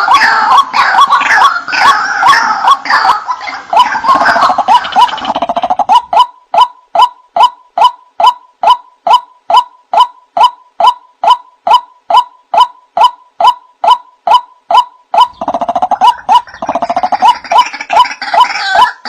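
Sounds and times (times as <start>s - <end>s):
waterhen calls: 0.0s - 19.0s.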